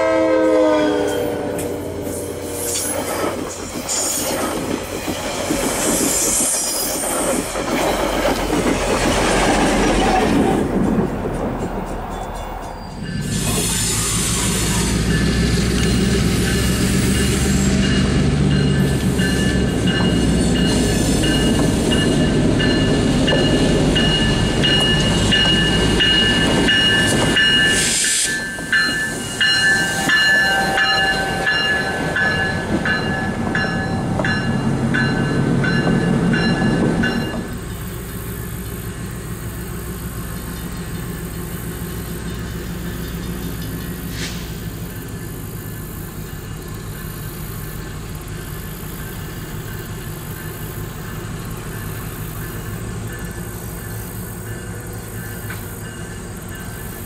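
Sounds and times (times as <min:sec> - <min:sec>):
train wheels squealing: 0:00.8 - 0:57.0
wheels clicking over rail joints: 0:02.7 - 0:13.6, 0:14.6 - 0:57.0
diesel engine rumbling: 0:07.4 - 0:57.0.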